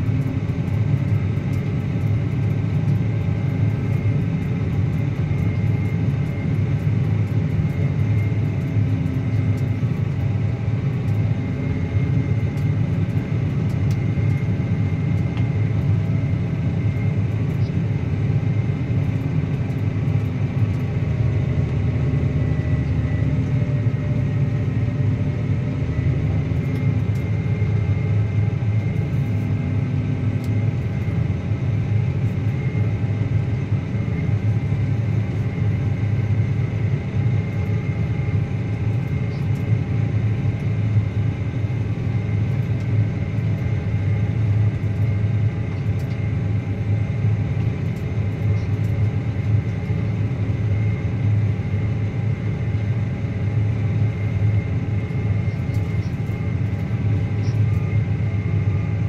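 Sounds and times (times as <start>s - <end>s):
thin steady whine: 0.0s - 59.0s.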